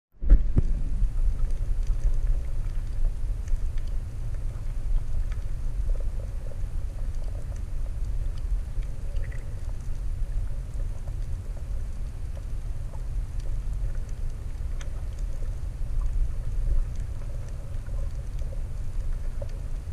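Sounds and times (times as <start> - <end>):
underwater water rumble: 0.2 - 19.9
faint ticks: 0.6 - 19.9.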